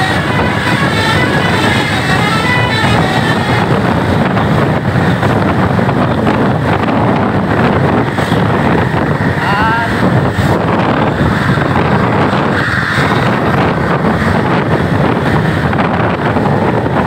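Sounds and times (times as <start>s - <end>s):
bus vehicle and road noise: 0.0s - 17.0s
wind buffeting microphone: 0.0s - 17.0s.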